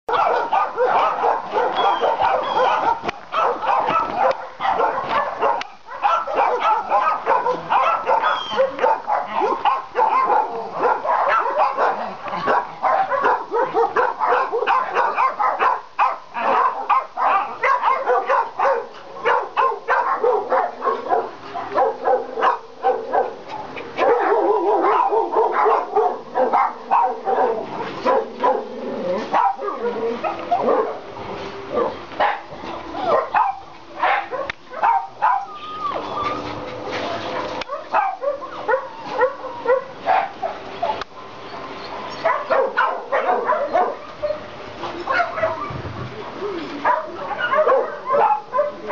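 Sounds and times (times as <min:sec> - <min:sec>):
many dogs barking: 0:00.1 - 0:41.1, 0:42.1 - 0:48.9.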